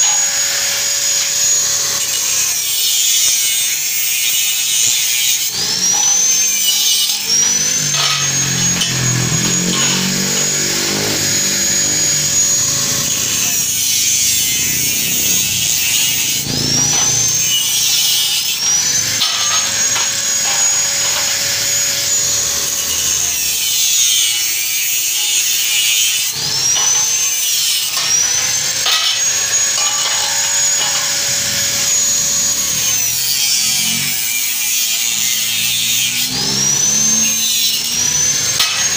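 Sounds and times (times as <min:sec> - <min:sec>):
angle grinder cutting steel: 0:00.0 - 0:38.9.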